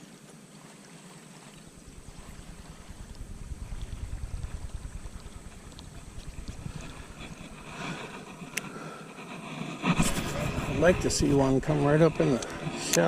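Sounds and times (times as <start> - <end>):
wind rumbling on microphone: 1.6 - 13.0.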